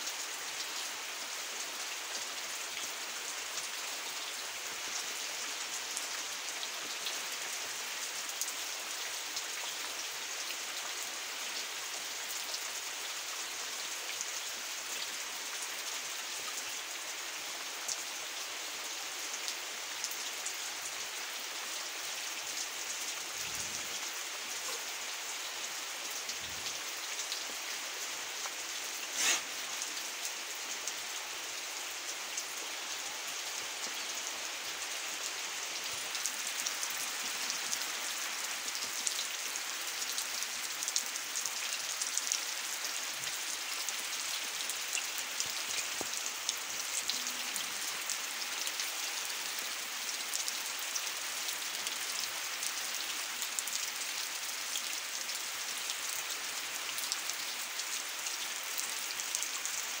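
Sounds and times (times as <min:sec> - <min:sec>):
rain falling on trees: 0:00.0 - 1:00.0.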